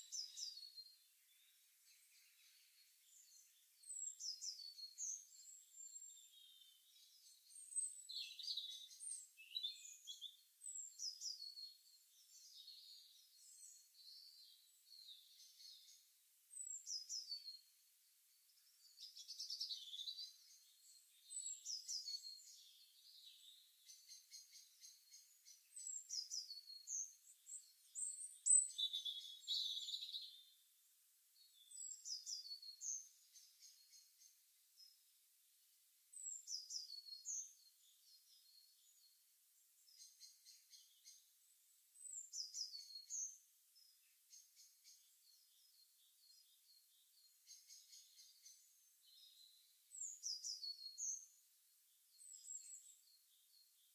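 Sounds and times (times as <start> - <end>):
birds chirping faintly: 0.0 - 53.9.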